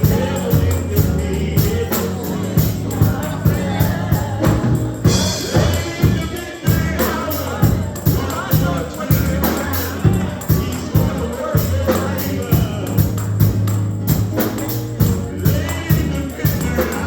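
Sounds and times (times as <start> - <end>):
bass: 0.0 - 17.0
drum kit beat: 0.0 - 17.0
tambourine: 0.0 - 17.0.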